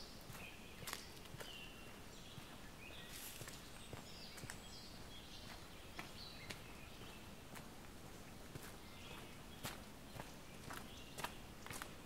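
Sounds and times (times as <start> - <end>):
small birds chirping: 0.0 - 12.0
footsteps on footpath: 0.2 - 12.0.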